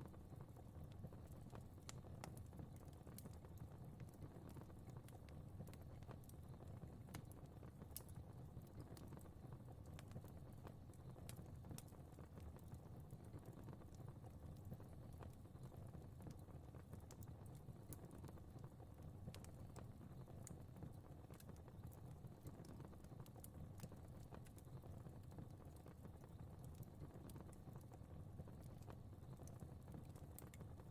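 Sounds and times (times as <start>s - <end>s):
low rumble of flames: 0.0s - 30.9s
fire crackling: 0.1s - 30.9s.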